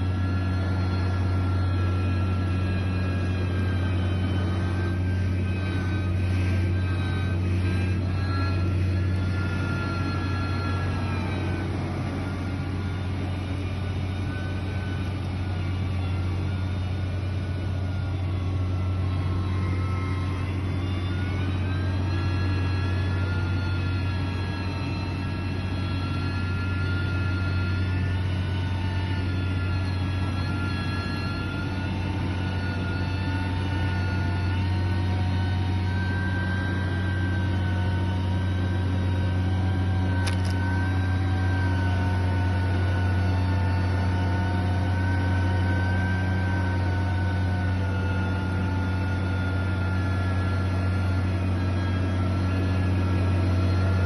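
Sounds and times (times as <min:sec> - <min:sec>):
diesel engine humming: 0:00.0 - 0:54.0
high machine whine: 0:00.0 - 0:54.0.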